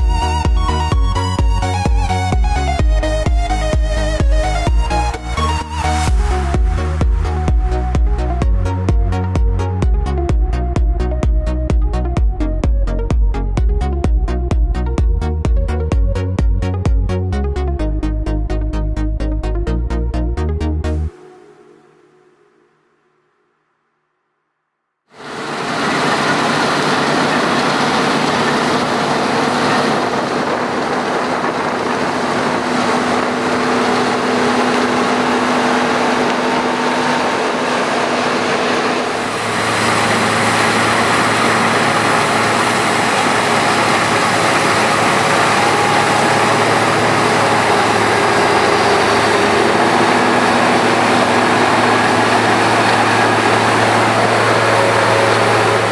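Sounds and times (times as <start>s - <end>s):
combine harvester running: 0.0s - 17.0s, 25.2s - 55.9s.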